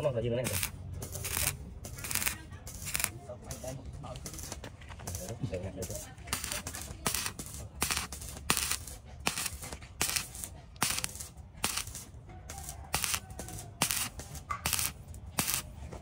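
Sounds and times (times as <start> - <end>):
rasping strokes: 0.4 - 15.7.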